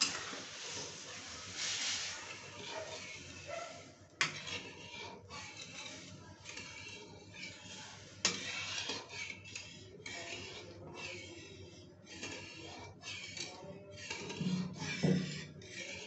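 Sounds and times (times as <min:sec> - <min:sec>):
metal spatula scraping a pot: 0:00.0 - 0:16.0.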